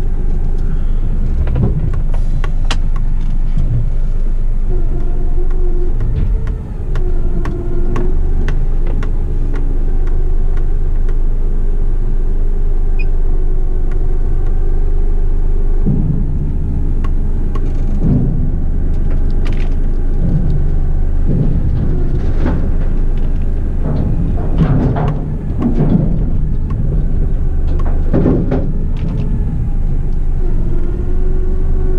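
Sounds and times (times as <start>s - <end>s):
diesel truck engine rumbling: 0.0s - 31.9s
low thumps: 0.0s - 31.9s.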